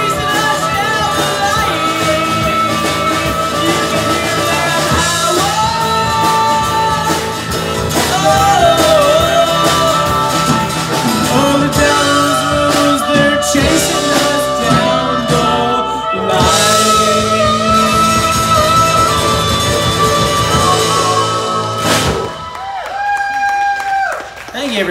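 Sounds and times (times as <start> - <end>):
harmonica lead line: 0.0 - 22.6
rock band playing: 0.0 - 23.1.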